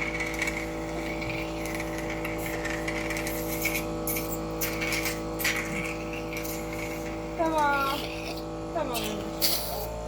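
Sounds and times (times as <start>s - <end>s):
suction pump motor humming: 0.0s - 10.0s
suction hissing: 0.7s - 10.0s.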